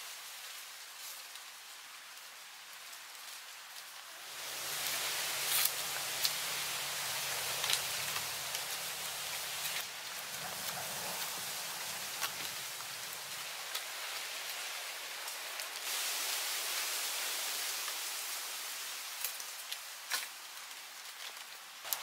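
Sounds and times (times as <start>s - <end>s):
forest background hiss: 0.0s - 22.0s.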